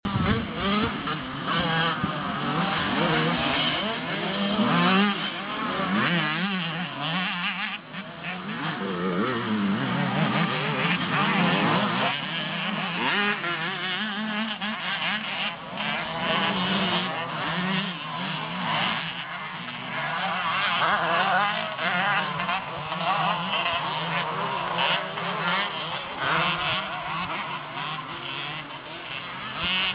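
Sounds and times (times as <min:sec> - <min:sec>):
motocross bike engines revving: 0:00.1 - 0:29.9.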